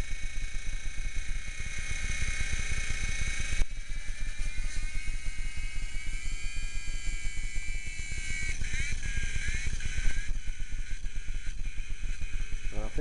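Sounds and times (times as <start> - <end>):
rotor blades chopping: 0.0 - 13.0
toy helicopter motor whine: 0.0 - 13.0.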